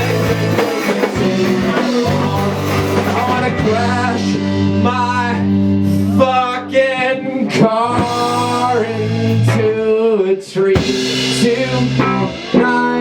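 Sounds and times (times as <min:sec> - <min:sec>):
bass guitar: 0:00.0 - 0:13.0
drums: 0:00.0 - 0:13.0
electric guitars: 0:00.0 - 0:13.0.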